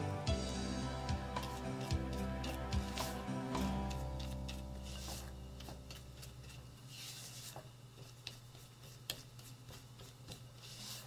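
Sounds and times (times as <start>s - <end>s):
spatula scraping in bowl: 1.4s - 11.0s.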